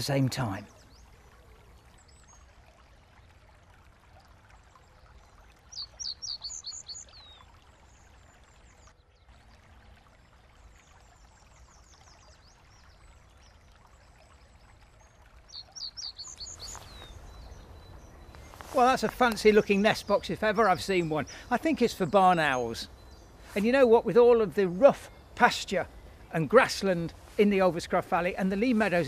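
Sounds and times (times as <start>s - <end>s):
trickling brook: 0.0s - 29.0s
songbird singing: 4.8s - 29.0s.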